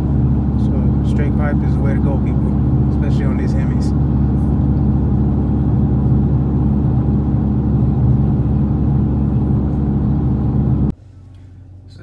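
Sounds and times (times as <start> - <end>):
road noise: 0.0 - 10.9
car engine drone in cabin: 0.0 - 12.0.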